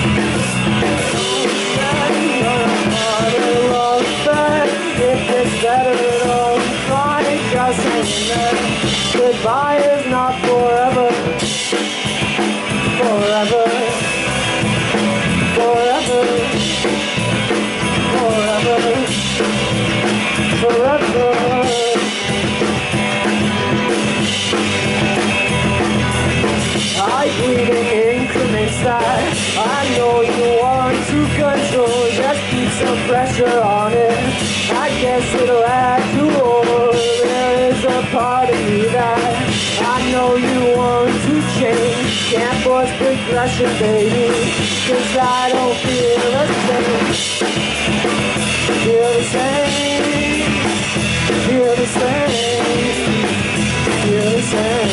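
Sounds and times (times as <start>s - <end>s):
drum kit: 0.0s - 54.9s
electric bass: 0.0s - 54.9s
electric guitars: 0.0s - 54.9s.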